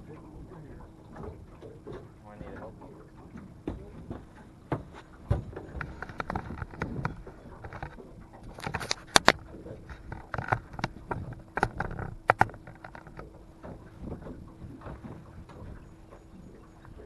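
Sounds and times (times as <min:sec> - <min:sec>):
faint steady hum: 0:00.0 - 0:17.0
sharp clicks and knocks: 0:01.1 - 0:16.3.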